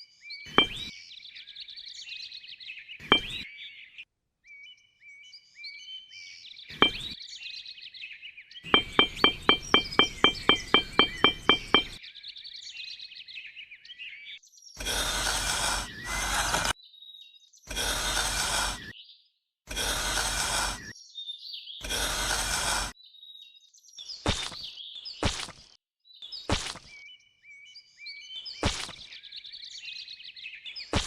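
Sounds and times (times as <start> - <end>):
small birds chirping: 0.1 - 25.5, 26.1 - 31.0.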